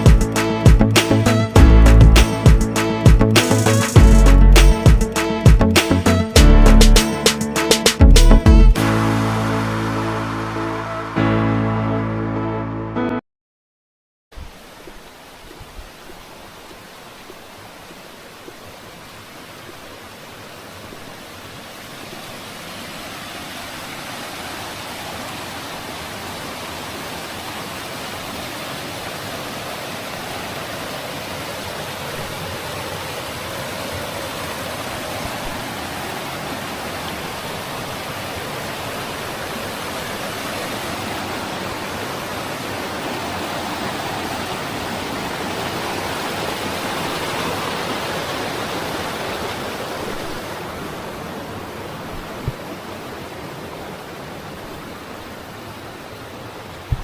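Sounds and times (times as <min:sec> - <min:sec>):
mountain stream rushing: 0:08.8 - 0:11.8, 0:14.4 - 0:57.0.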